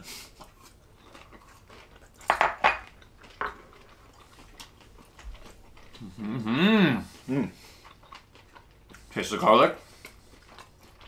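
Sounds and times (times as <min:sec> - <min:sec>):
quiet chewing: 0:00.0 - 0:11.0.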